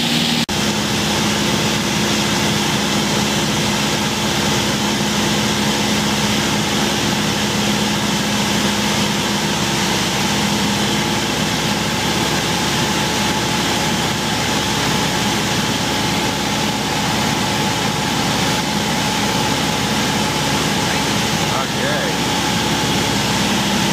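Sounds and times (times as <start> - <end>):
light aircraft engine droning: 0.0 - 23.9.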